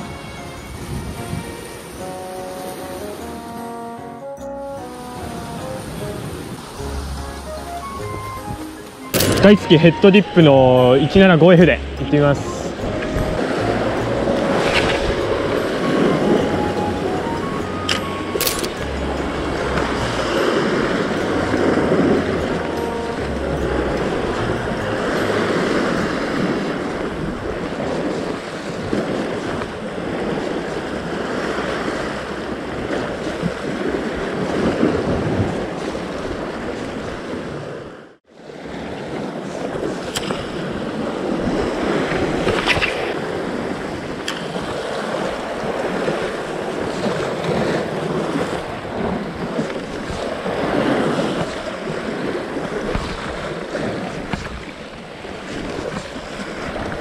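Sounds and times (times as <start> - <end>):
wind buffeting microphone: 0.0 - 2.1, 12.0 - 38.0, 38.6 - 57.0
waves breaking against rocks: 8.6 - 57.0.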